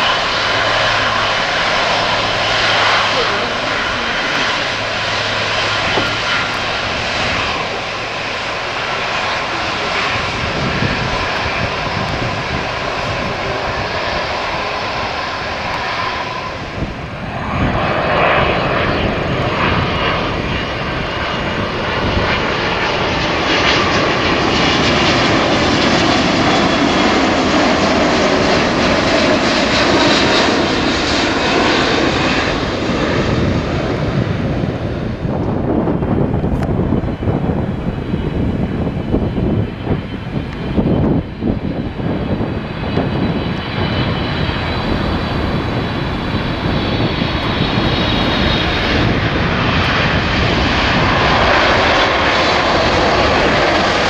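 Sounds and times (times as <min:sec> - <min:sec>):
jet plane approaching: 0:00.0 - 0:54.0
jet plane rolling on runway: 0:00.0 - 0:54.0.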